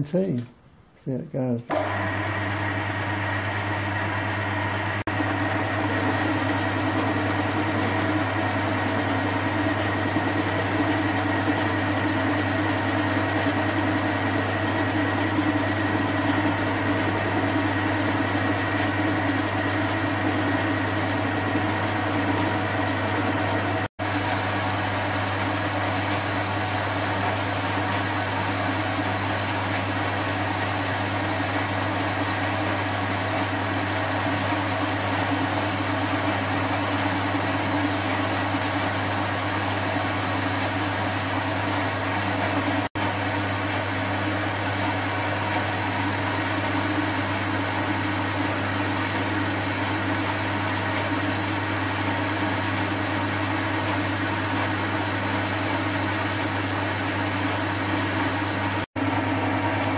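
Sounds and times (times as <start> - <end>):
metal lathe motor humming: 1.7 - 59.9.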